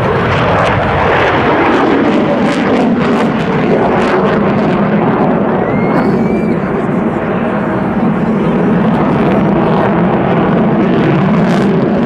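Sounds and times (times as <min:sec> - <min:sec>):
jet engines in afterburner: 0:00.0 - 0:12.0.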